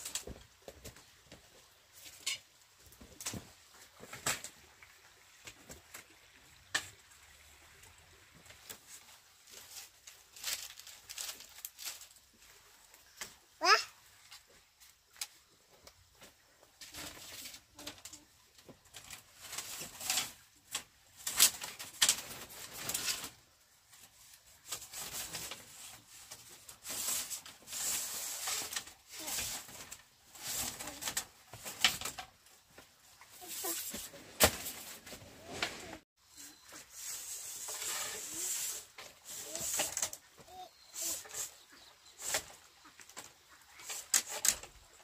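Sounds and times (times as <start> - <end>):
bamboo slats rattling and scraping: 0.0 - 7.0, 8.4 - 45.0.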